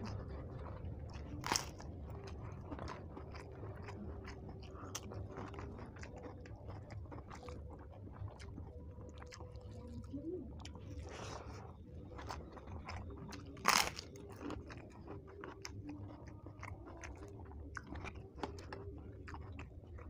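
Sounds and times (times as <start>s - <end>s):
chewing with mouth clicks: 0.0s - 20.0s
crisp papad crunch: 0.0s - 20.0s.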